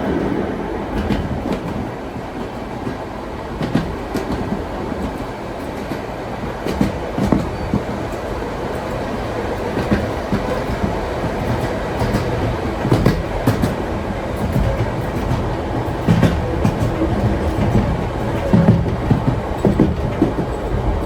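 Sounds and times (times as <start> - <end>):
train wheels rumbling on rails: 0.0 - 21.0
wheels clacking over rail joints: 0.0 - 21.0.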